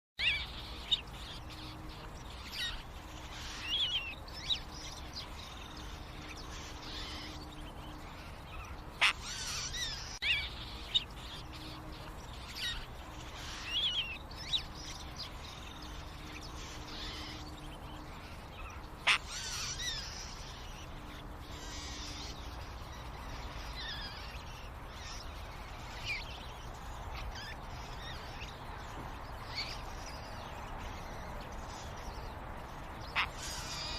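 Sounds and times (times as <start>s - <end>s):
blue jays calling: 0.2s - 33.9s.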